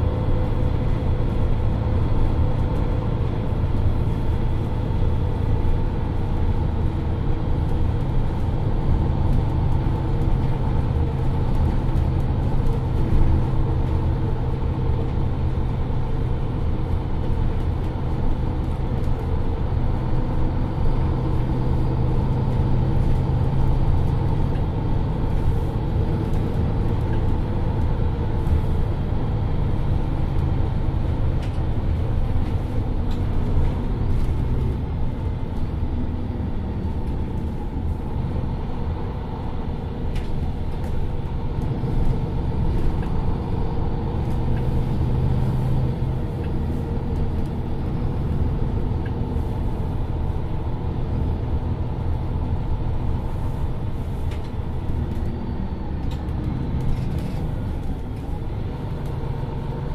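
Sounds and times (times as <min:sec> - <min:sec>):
bus diesel engine idling: 0:00.0 - 0:59.9.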